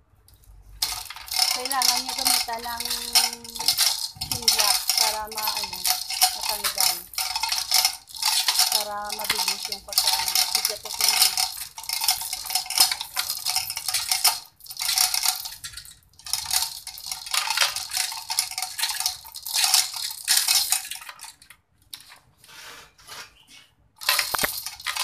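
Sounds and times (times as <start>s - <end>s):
hoist chain rattling and clinking: 0.8s - 21.4s, 24.0s - 25.0s.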